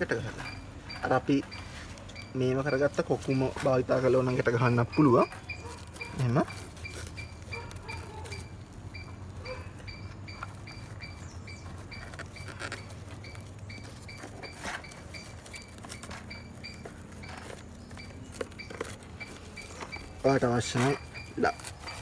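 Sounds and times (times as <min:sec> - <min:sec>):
rope and husk rustling: 0:00.0 - 0:22.0.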